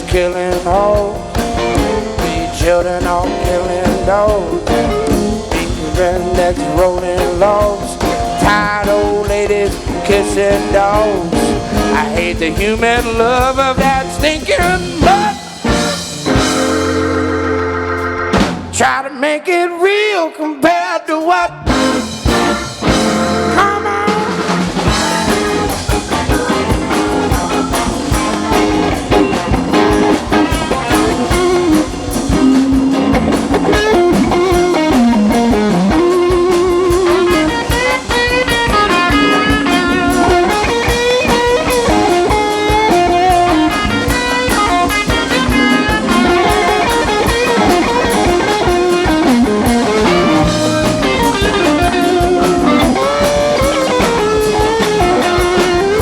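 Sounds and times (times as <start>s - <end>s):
bass guitar: 0.0s - 19.0s, 21.5s - 56.0s
drum kit: 0.0s - 19.0s, 21.4s - 56.0s
electric guitar lead line: 0.0s - 19.0s, 21.5s - 56.0s.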